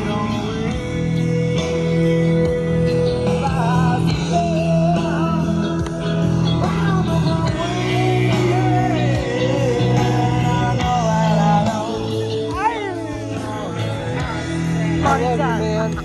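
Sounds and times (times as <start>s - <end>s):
rock song with singer: 0.0s - 16.0s.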